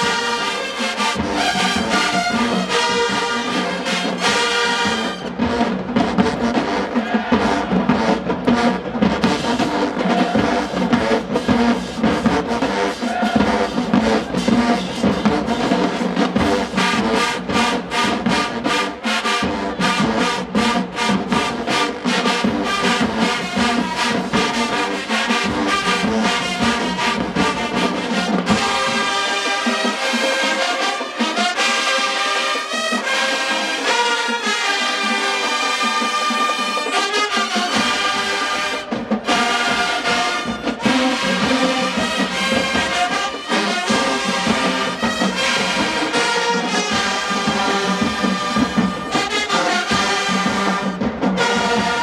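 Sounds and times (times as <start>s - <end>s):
drums: 0.0s - 52.0s
marching band brass: 0.0s - 52.0s.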